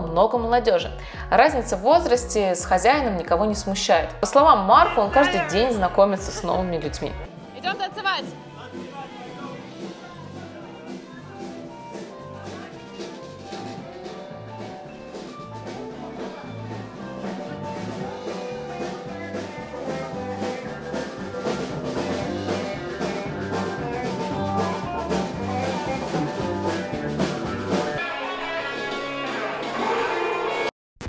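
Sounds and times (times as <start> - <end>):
bluesy jazz music: 0.0 - 29.9.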